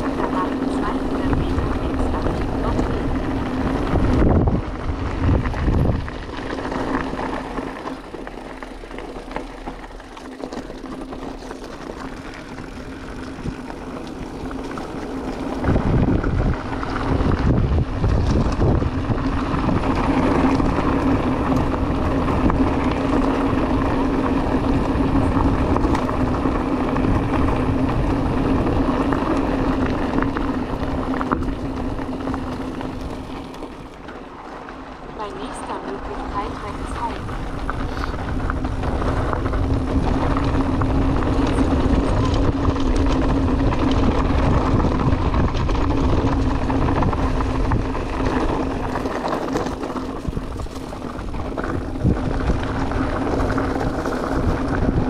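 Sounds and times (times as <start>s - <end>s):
bike hum: 0.0s - 55.0s
low rumble: 0.0s - 55.0s
wind buffeting microphone: 0.0s - 55.0s.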